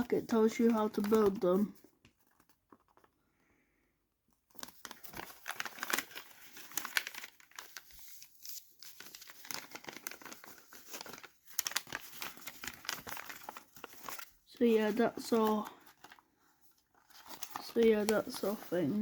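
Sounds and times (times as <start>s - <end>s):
packaging crinkling and rustling: 0.0s - 3.2s, 4.4s - 19.0s.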